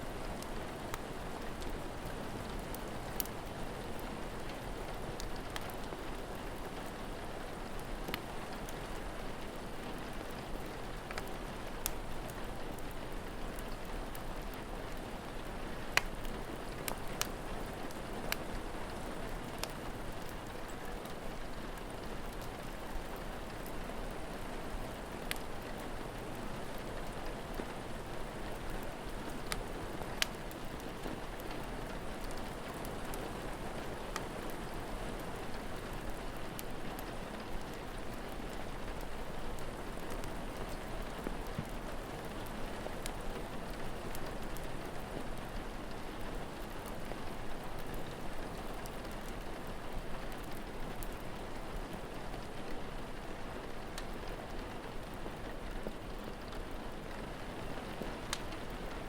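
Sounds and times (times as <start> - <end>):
fire crackling and popping: 0.0 - 59.0
rain falling: 0.0 - 59.0.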